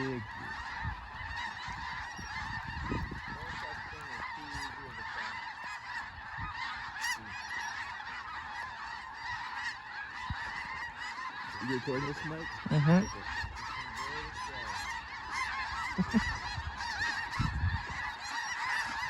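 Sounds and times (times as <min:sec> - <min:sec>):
flock of geese honking: 0:00.0 - 0:19.0.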